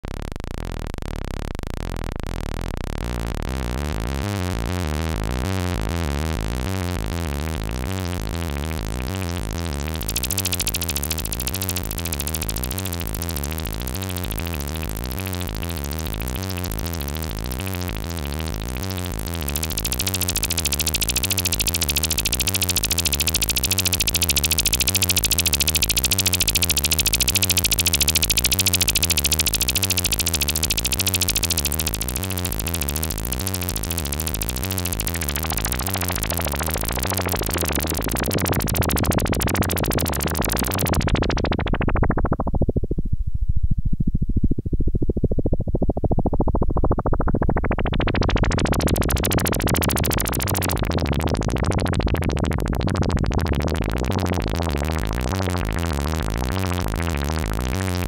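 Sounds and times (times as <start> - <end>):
electronic music with looping synth: 2.1 - 42.4, 46.9 - 58.0.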